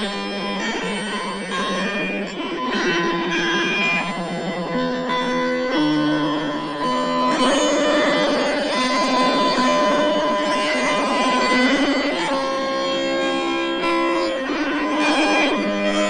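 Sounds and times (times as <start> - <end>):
instrumental music with held notes: 0.0 - 16.0.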